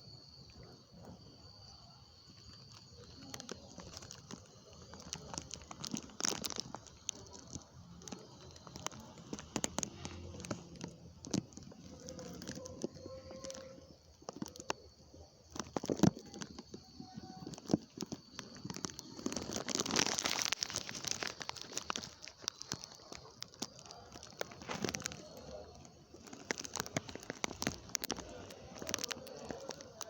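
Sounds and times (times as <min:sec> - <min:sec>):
rustling and crinkling: 0:00.3 - 0:30.0.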